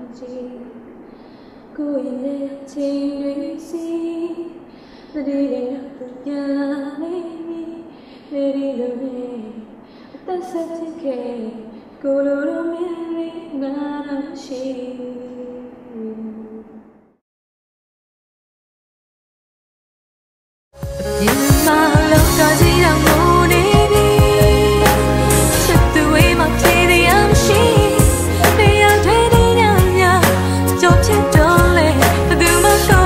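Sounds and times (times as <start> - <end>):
woman singing a slow ballad: 1.8 - 16.7, 21.0 - 33.0.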